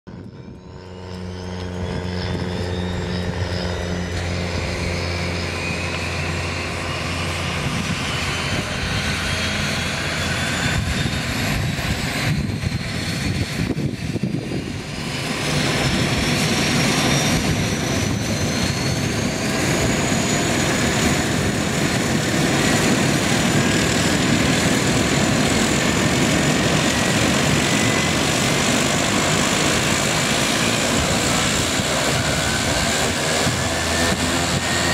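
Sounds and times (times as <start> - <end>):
turboprop turbine whine rising: 0.1 - 34.9.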